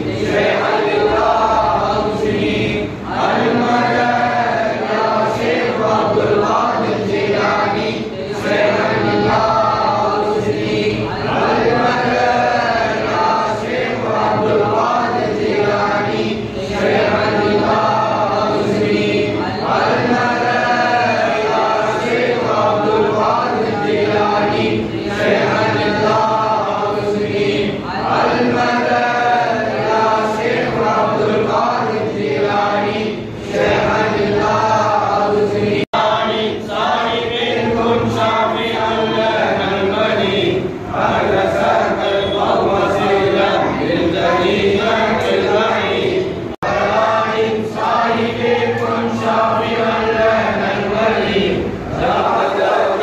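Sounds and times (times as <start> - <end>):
men chanting together: 0.0 - 53.0.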